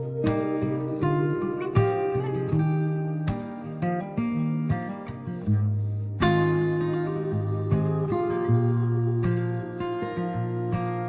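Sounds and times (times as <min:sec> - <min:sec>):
acoustic guitar strummed and picked: 0:00.0 - 0:11.0.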